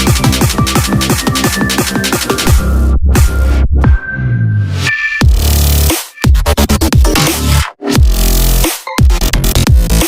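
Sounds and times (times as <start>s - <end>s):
dubstep music with heavy bass: 0.0s - 10.0s.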